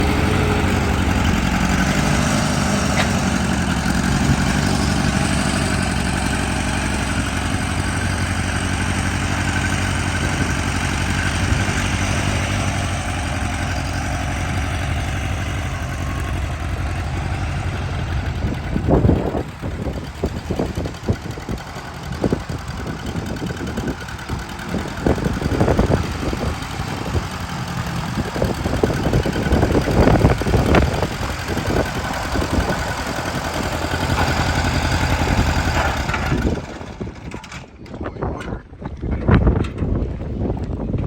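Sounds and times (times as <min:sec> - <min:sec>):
tractor engine idling: 0:00.0 - 0:41.0.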